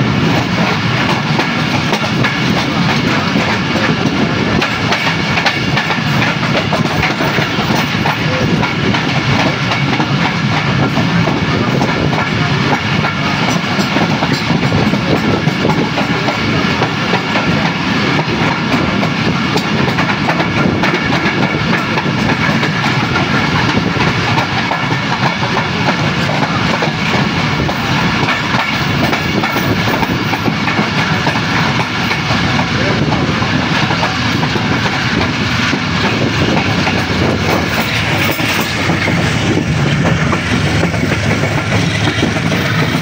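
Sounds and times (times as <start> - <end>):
clatter over the track: 0.0 - 43.0
train wheels rumbling: 0.0 - 43.0.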